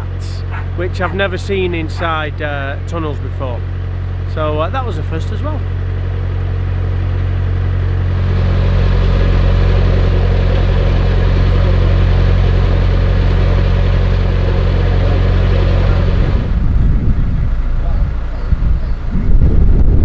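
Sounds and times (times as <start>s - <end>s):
boat diesel engine running: 0.0s - 20.0s.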